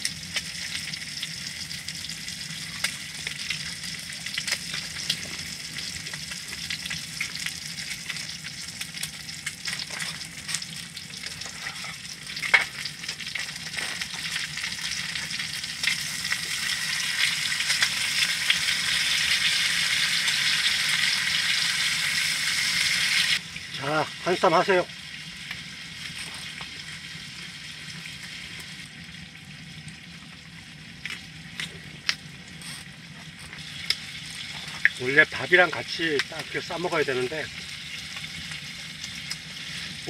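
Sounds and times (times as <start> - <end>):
pork sizzling in frying: 0.0 - 40.0.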